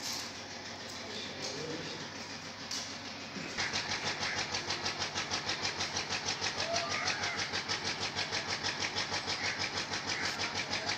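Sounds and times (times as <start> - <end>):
engine running with rapid pulse: 0.0 - 10.9.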